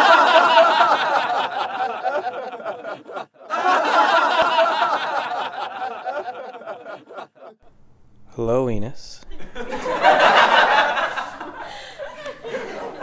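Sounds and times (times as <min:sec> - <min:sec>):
group of people laughing: 0:00.0 - 0:07.6, 0:09.3 - 0:13.0.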